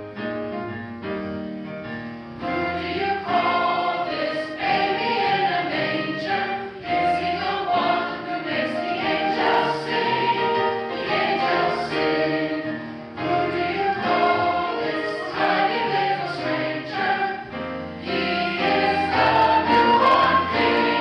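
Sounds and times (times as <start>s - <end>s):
choir singing in harmony: 2.4s - 21.0s.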